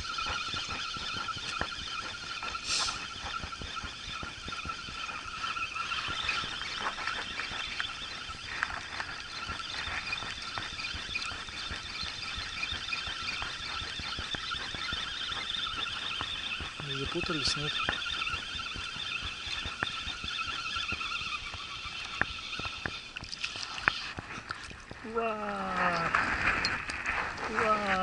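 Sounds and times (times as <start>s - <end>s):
fine ticking: 0.0s - 28.0s
fishing reel whining: 0.0s - 28.0s.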